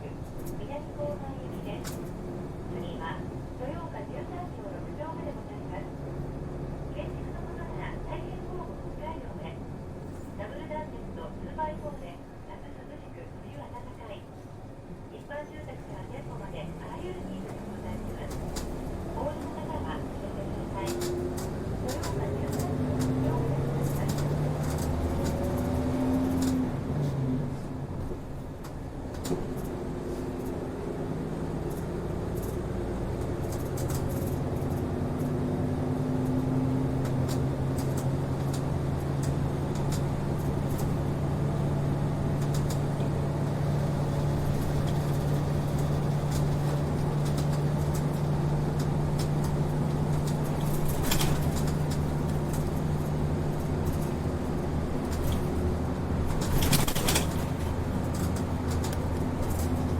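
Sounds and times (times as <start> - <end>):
bus engine drone: 0.0 - 59.9
rattles and clicks from bus body: 0.0 - 59.9.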